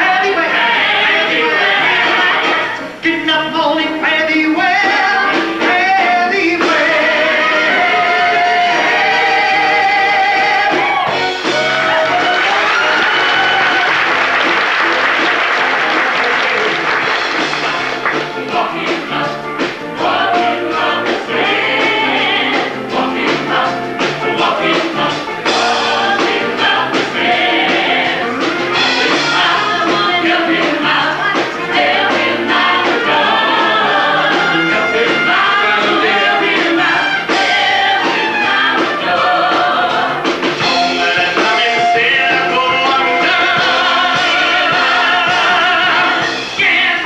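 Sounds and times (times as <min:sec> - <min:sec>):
band playing: 0:00.0 - 0:47.0
group of voices singing: 0:00.0 - 0:47.0.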